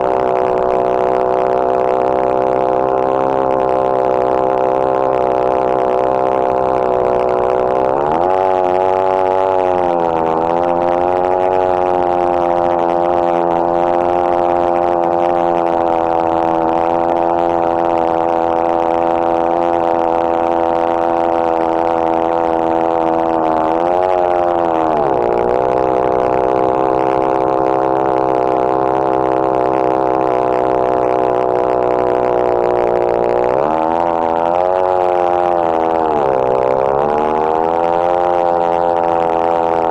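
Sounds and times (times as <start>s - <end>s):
chainsaw cutting log: 0.2s - 39.9s.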